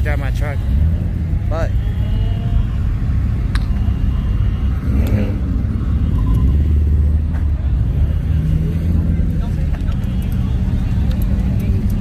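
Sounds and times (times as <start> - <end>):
car engine and exhaust rumble: 0.0 - 12.0.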